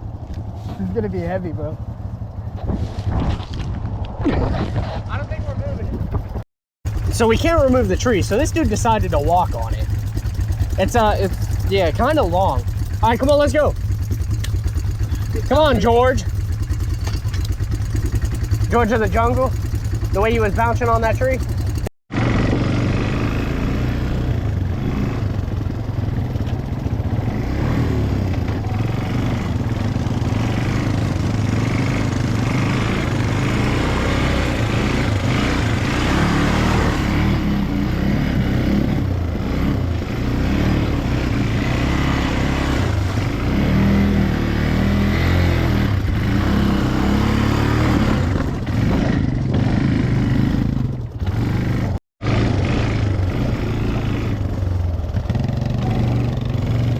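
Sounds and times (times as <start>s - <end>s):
atv engine running: 5.8s - 56.9s.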